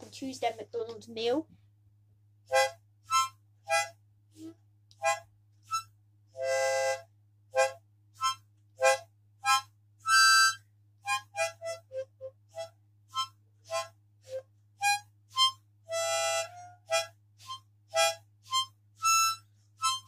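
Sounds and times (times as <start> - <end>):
harmonica puffs and chords: 2.5 - 20.0.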